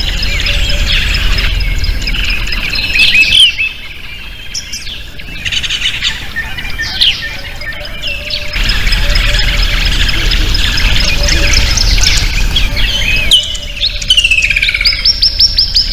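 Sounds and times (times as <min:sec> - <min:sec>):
low hum: 0:00.0 - 0:15.9
songbirds chirping: 0:00.0 - 0:15.9.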